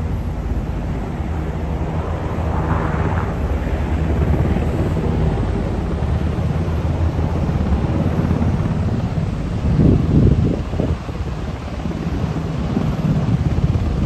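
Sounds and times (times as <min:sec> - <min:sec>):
helicopter rotor beating: 0:00.0 - 0:14.0
turbine noise: 0:00.0 - 0:14.0.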